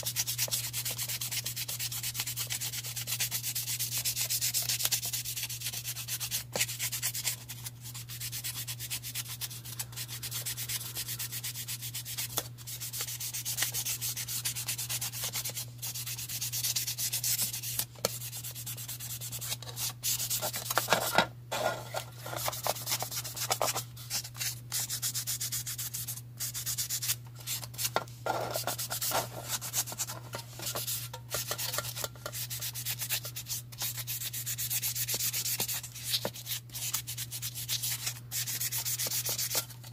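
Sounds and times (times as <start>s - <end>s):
sanding plastic: 0.0s - 39.9s.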